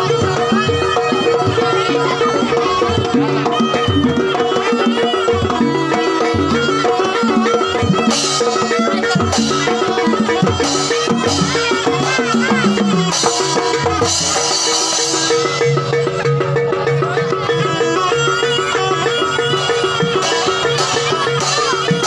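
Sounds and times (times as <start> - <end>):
drums beating steady rhythm: 0.0 - 22.0
pitched melody instruments: 0.0 - 22.0.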